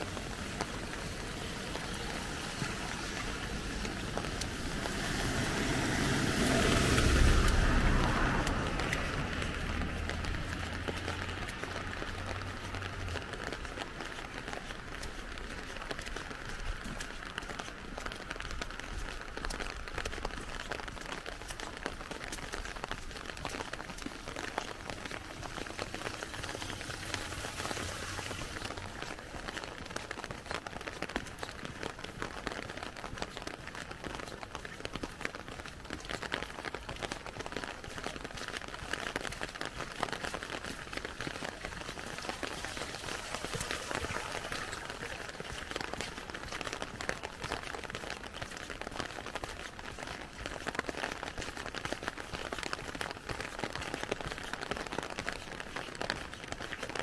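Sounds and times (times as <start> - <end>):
rain pattering on umbrella: 0.0 - 57.0.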